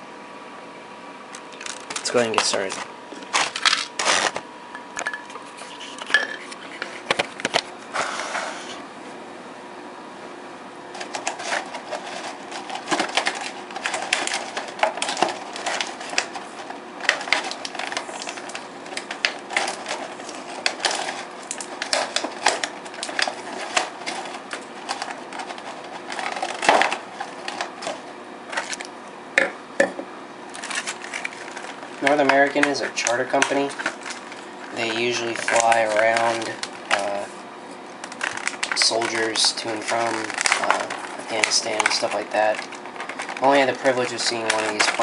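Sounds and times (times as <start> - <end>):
plastic packaging crinkling: 1.4 - 7.7, 10.9 - 29.0, 30.5 - 45.0.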